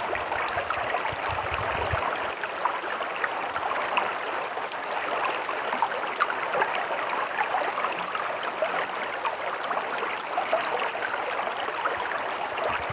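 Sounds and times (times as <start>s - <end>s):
stream running over stones: 0.0s - 12.9s.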